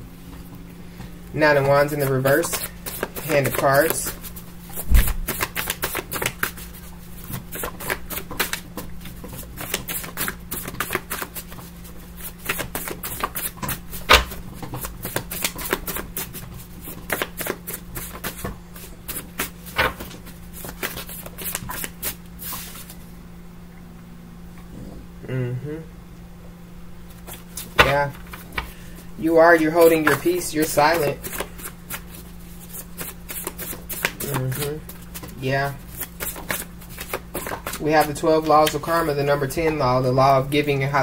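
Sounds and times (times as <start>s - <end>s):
cards being shuffled: 1.6s - 23.0s, 27.1s - 39.8s.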